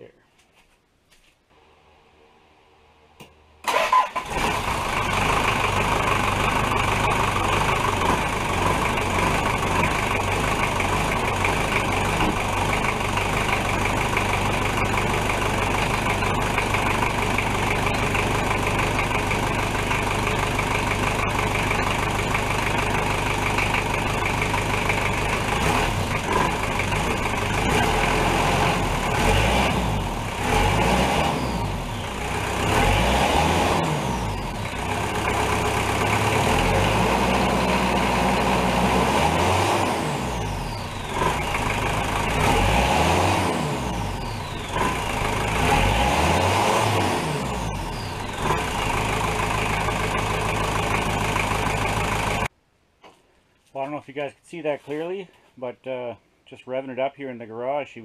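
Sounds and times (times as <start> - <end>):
diesel engine running and revving: 3.7 - 52.5.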